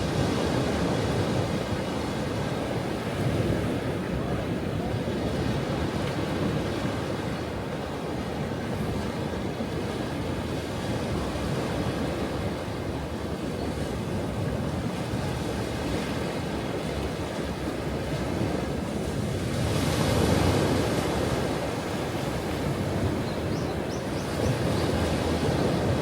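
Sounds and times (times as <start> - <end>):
ocean waves washing ashore: 0.0 - 26.0.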